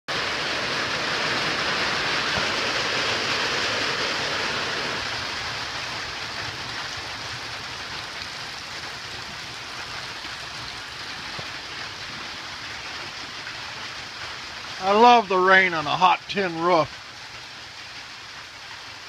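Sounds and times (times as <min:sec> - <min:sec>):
rain on a tin roof: 0:00.1 - 0:19.0.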